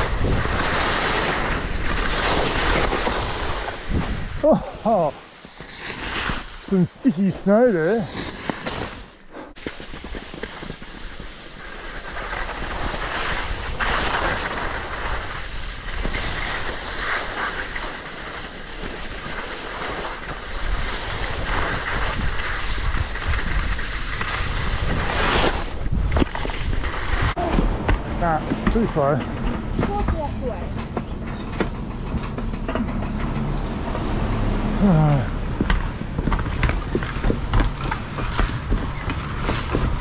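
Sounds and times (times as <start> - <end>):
wind buffeting microphone: 0.0 - 4.8, 9.5 - 40.0
skis sliding over snow: 0.0 - 31.1, 33.6 - 40.0.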